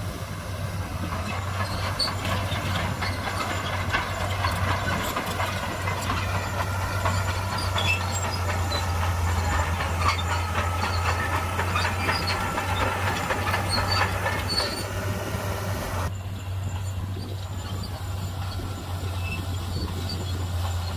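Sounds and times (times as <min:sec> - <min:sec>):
bulldozer diesel engine humming: 0:00.0 - 0:20.9
steel tracks clanking and squeaking: 0:00.1 - 0:20.9.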